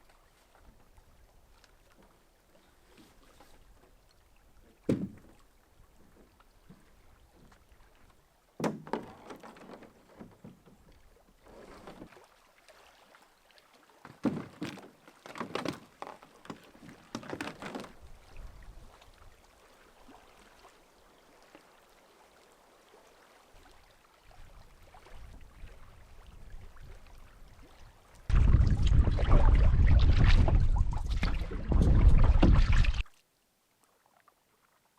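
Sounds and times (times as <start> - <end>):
paddle splashing in water: 0.0 - 33.2.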